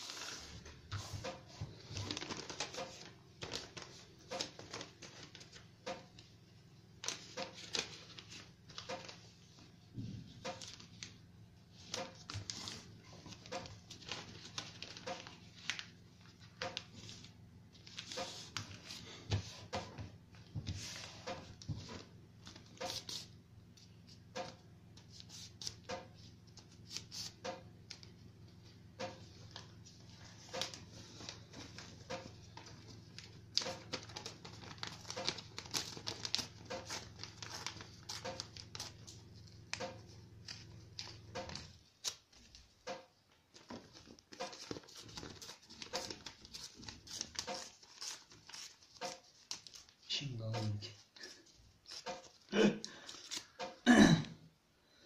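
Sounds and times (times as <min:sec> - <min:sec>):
paper crinkling and creasing: 0:00.0 - 0:06.3, 0:07.0 - 0:09.7, 0:10.3 - 0:53.8.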